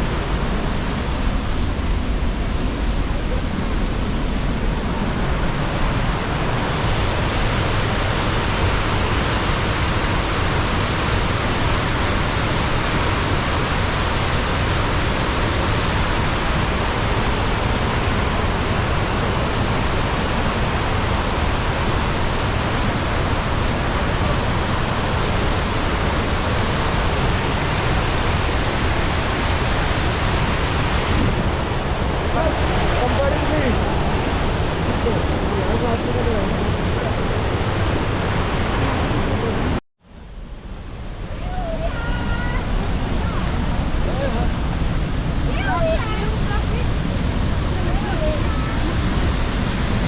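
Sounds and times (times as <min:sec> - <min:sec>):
waterfall roaring: 0:00.0 - 0:39.8, 0:40.4 - 0:50.0.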